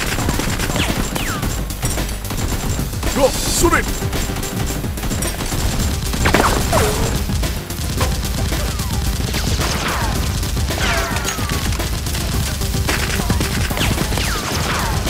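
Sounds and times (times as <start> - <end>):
automatic gunfire: 0.0 - 15.0.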